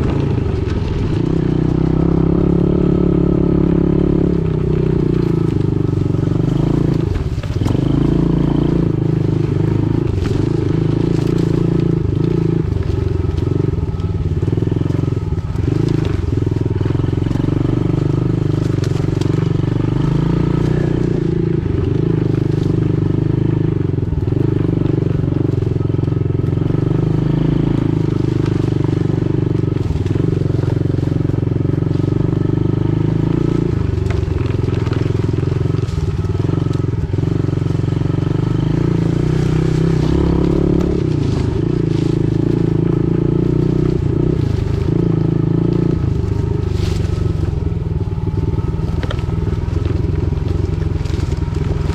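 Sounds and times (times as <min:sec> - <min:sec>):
pit bike engine running: 0:00.0 - 0:51.9.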